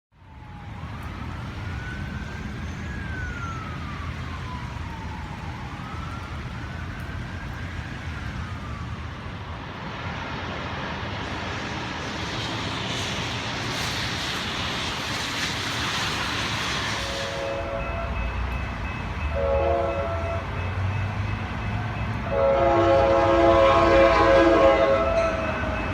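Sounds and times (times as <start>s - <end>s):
siren wailing: 0.2s - 10.5s, 13.7s - 25.9s.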